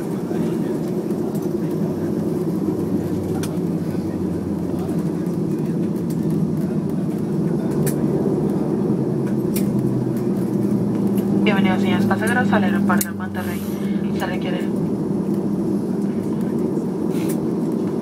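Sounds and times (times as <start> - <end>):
airliner engines rumbling in cabin: 0.0 - 18.0.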